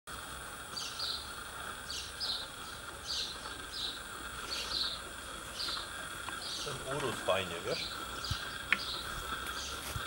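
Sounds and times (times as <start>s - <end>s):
insect drone: 0.1s - 10.0s
small bird chirping: 0.7s - 10.0s.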